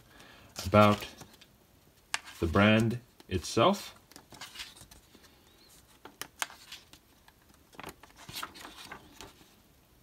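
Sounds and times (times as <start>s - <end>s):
pages rustling: 0.1s - 9.6s.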